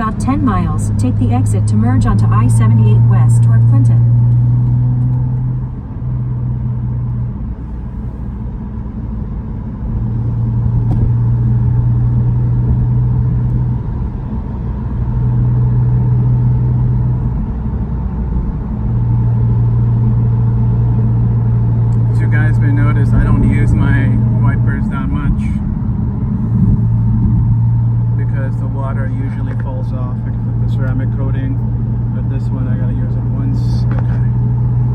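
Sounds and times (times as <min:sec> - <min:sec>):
car engine droning in cabin: 0:00.0 - 0:34.9.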